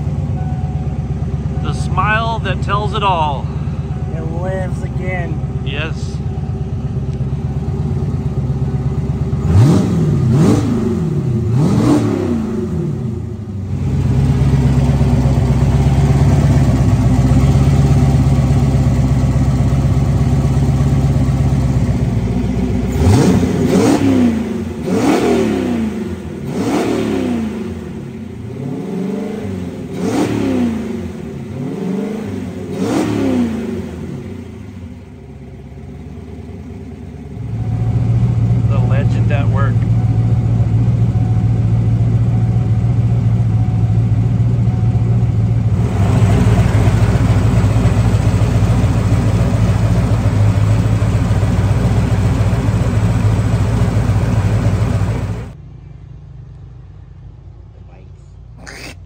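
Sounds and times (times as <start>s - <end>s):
turbocharged car engine revving: 1.4s - 44.6s, 45.4s - 55.6s.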